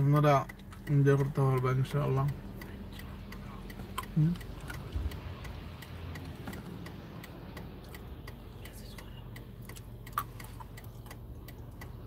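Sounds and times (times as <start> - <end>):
car indicator relay ticking: 0.0 - 12.0
low steady hum: 0.0 - 12.0.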